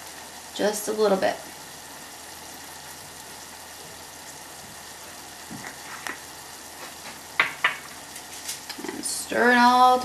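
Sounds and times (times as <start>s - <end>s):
onion sizzling in oil: 0.0s - 10.0s.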